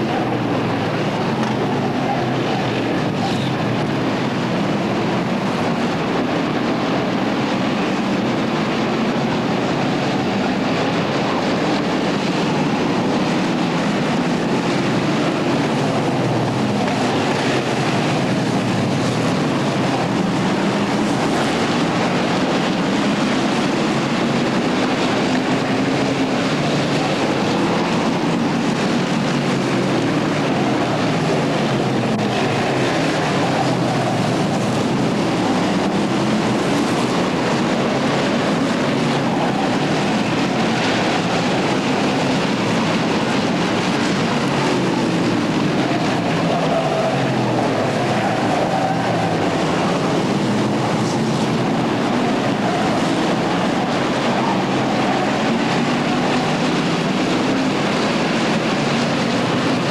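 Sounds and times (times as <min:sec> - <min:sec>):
race car engines droning: 0:00.0 - 0:59.9.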